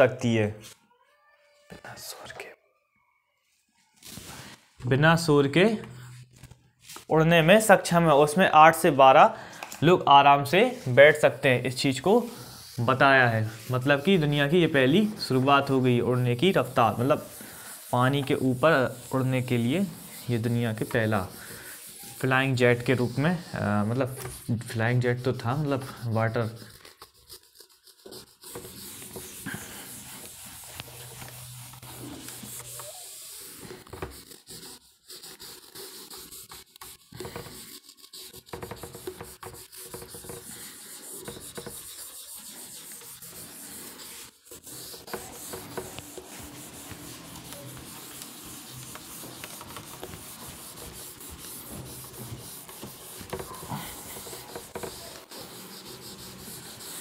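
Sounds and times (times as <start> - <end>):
eraser scrubbing a whiteboard: 9.8 - 57.0.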